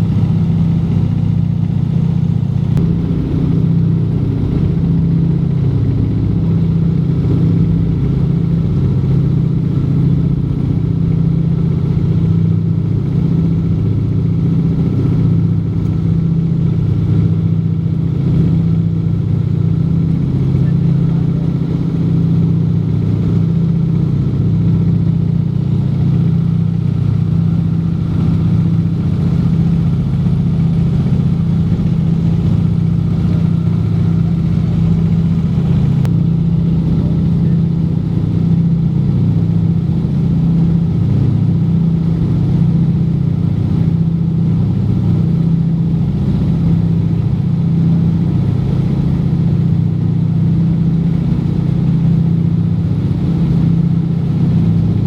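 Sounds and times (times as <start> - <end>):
aircraft engines humming in cabin: 0.0 - 55.0.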